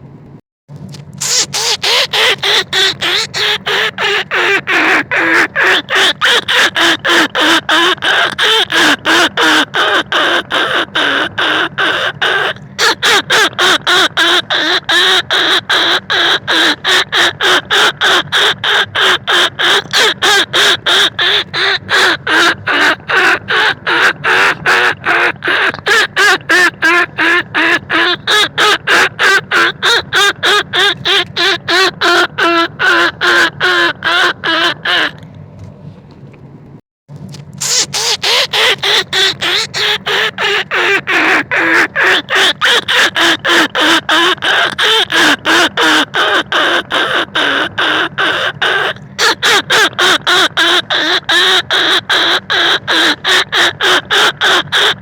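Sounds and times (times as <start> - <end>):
squeaky rat calls: 0.9 - 35.2, 37.6 - 55.0.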